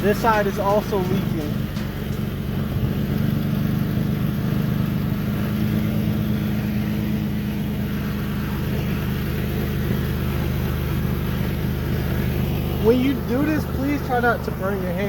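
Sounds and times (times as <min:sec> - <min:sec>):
car engine idling: 0:00.0 - 0:15.0
exhaust gas leaking: 0:00.0 - 0:15.0.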